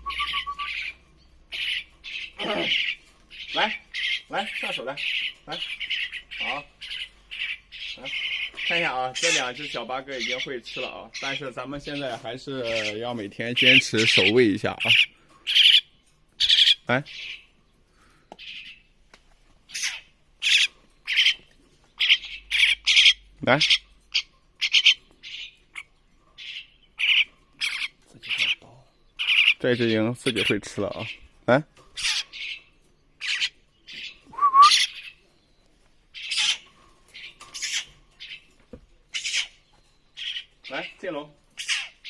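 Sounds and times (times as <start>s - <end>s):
young birds squawking: 0.0s - 19.0s, 19.6s - 35.2s, 36.1s - 42.0s.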